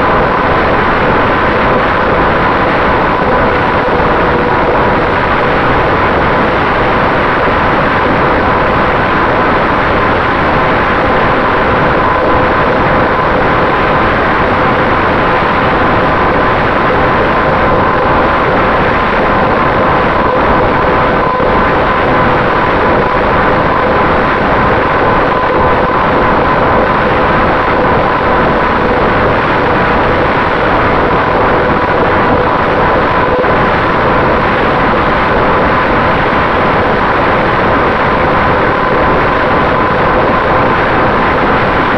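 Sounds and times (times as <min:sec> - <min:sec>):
faint steady whine: 0:00.0 - 0:41.9
wind rushing over microphone: 0:00.0 - 0:41.9.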